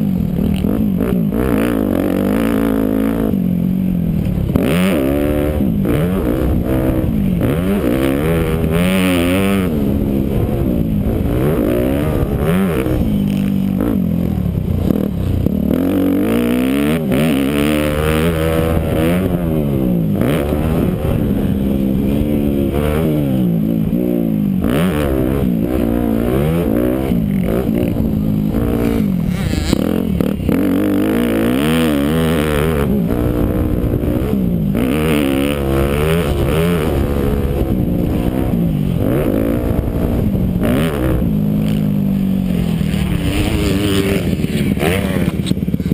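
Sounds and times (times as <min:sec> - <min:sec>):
motocross engine revving: 0:00.0 - 0:45.9.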